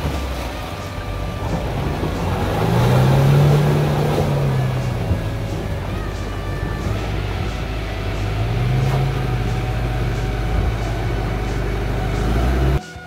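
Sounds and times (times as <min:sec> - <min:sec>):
heavy rain hiss: 0:00.0 - 0:12.8
off-road vehicle engine running: 0:00.0 - 0:12.8.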